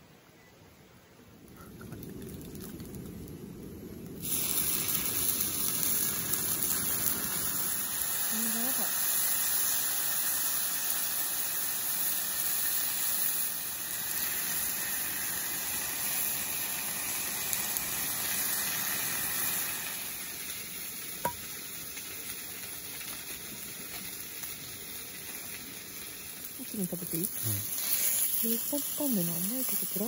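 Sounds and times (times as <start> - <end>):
meat sizzling on a griddle: 2.0 - 30.0.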